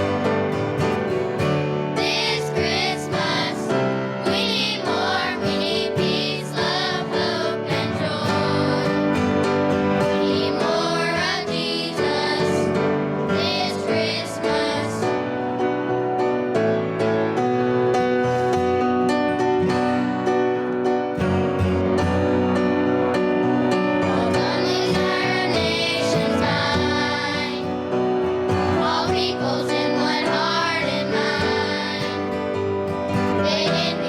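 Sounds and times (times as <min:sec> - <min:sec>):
instrumental accompaniment: 0:00.0 - 0:33.9
children's choir singing: 0:00.0 - 0:34.0.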